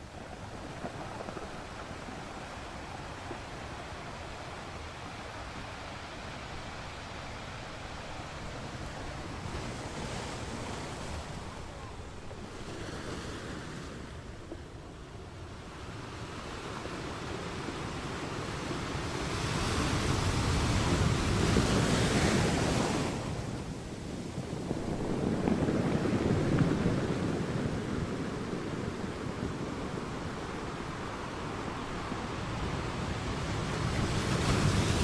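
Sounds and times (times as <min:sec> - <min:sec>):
ocean waves breaking: 0:00.0 - 0:35.0.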